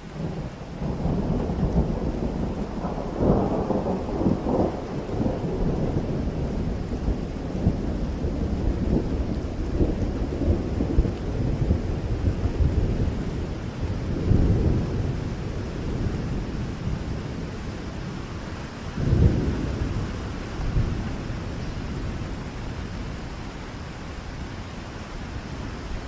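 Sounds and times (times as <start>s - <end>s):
low rolling thunder: 0.0s - 23.3s
rain falling: 0.0s - 26.0s.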